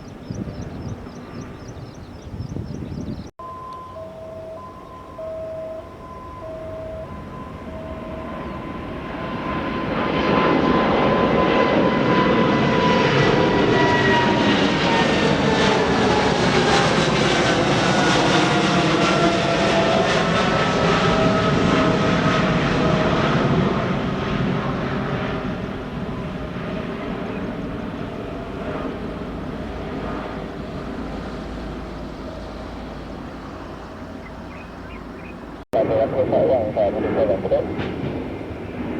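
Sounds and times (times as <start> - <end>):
jet engines passing by: 0.0 - 38.9.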